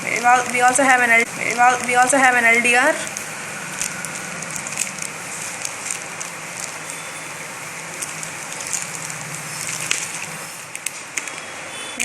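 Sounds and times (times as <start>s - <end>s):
plastic packets crackling: 0.0s - 12.0s
steady hiss and low hum: 0.0s - 12.0s.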